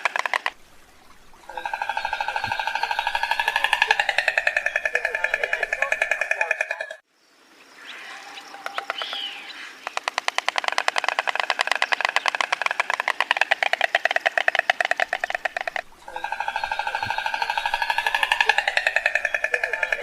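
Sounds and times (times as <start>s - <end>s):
stork clattering its bill: 0.0s - 7.0s, 8.6s - 20.0s.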